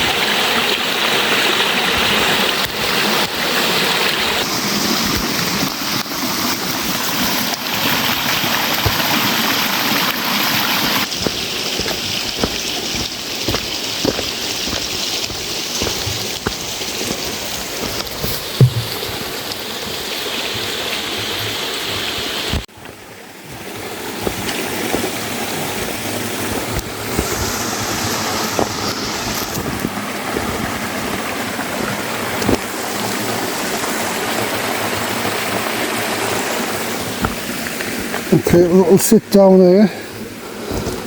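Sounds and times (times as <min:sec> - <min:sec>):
stream running: 0:00.0 - 0:41.0.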